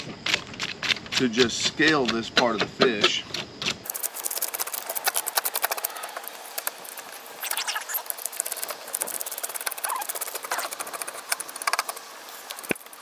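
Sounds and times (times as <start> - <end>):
scaling tool scraping fish scales: 0.0 - 13.0.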